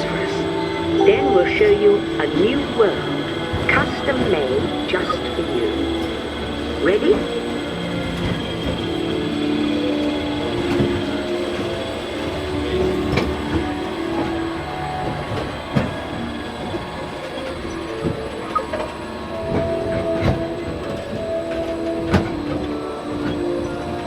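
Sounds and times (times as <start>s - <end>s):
soft ambient music: 0.0s - 24.0s
ride vehicle rumbling on track: 1.8s - 24.0s.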